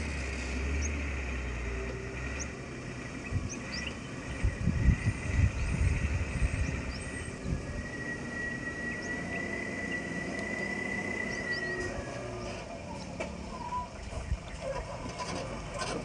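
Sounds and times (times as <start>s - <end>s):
truck diesel engine running: 0.0s - 16.0s
birds chirping: 0.6s - 15.1s.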